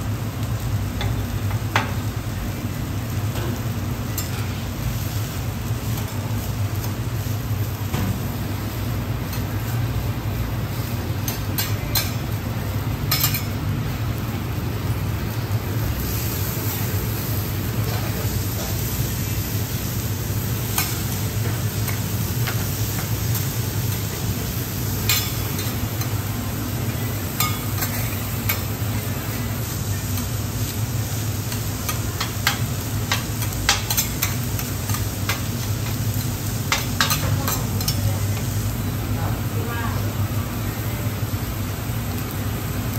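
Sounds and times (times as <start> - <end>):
food sizzling on griddle: 0.0 - 42.9.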